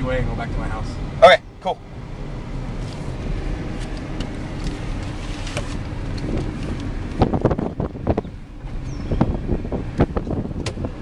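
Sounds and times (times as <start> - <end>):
engine and tyre rumble: 0.0 - 11.0
wind buffeting microphone: 2.2 - 11.0.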